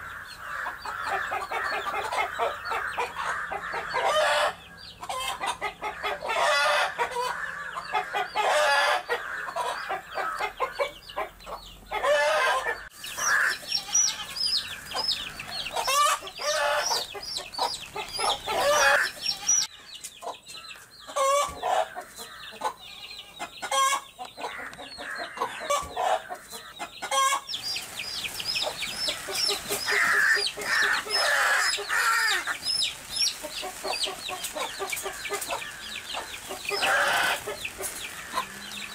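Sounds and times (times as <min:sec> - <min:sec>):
chicks peeping: 0:00.0 - 0:38.9
hens clucking: 0:00.0 - 0:38.9.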